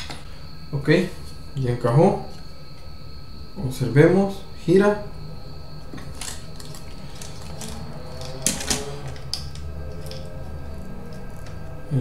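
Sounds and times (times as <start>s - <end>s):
motor humming and whining: 0.0s - 12.0s.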